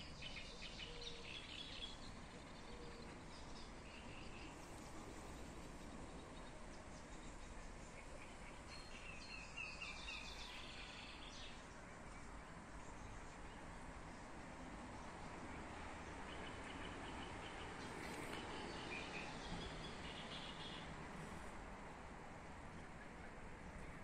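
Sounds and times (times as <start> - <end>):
low background hiss: 0.0 - 24.0.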